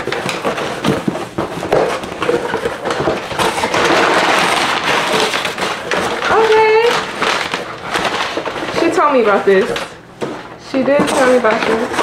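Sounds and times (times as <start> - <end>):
packing tape ripping: 0.0 - 10.0
cardboard crackling: 0.0 - 12.0.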